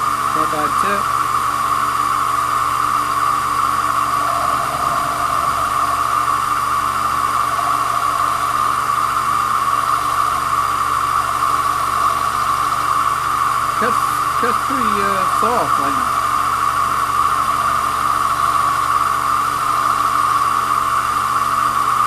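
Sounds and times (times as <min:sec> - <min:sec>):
lathe whining: 0:00.0 - 0:22.0.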